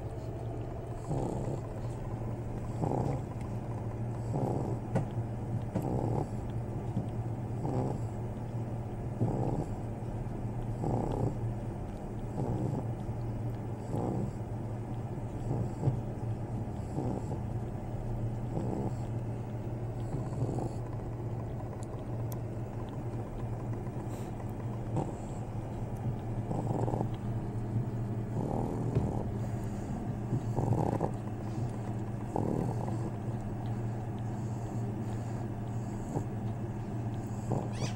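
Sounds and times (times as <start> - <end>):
puppy breathing and snuffling: 0.0 - 37.9
steady low hum: 0.0 - 37.9.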